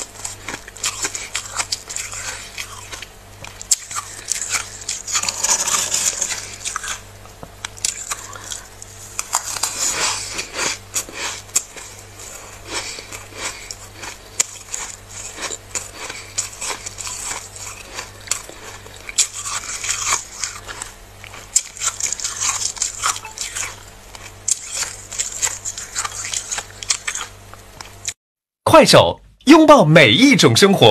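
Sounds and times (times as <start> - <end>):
frost crunching and crackling: 0.0 - 28.1.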